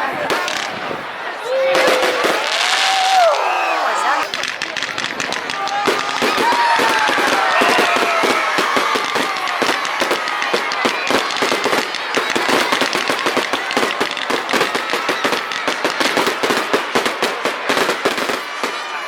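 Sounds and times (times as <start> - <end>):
fireworks bangs and crackles: 0.0 - 3.5, 4.1 - 19.0.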